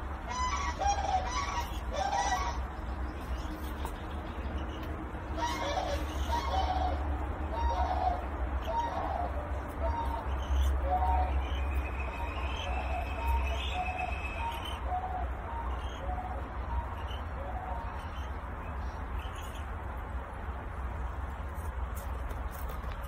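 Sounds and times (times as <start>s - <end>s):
crane chick chirping: 0.0s - 19.8s.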